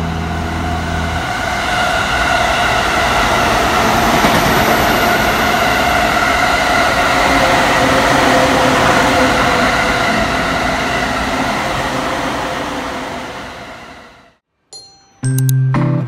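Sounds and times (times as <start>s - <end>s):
train wheels on track: 0.0s - 14.4s.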